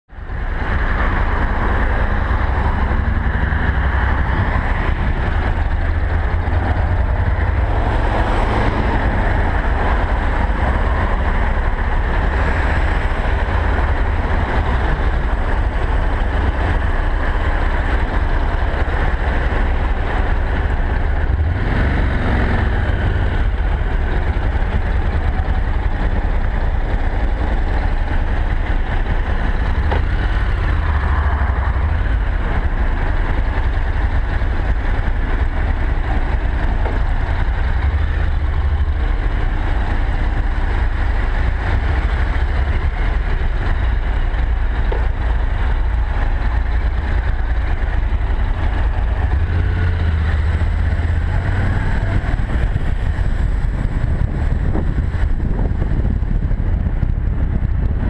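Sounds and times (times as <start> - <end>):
motorcycle engine rumbling: 0.1 - 58.0
road noise: 0.1 - 58.0.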